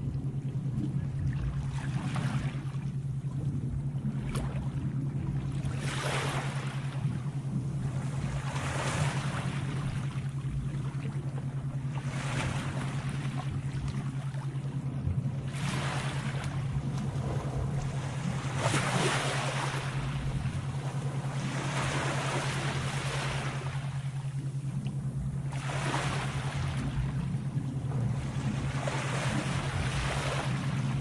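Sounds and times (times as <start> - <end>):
sea waves washing in: 0.0 - 31.0
steady low hum: 0.0 - 31.0.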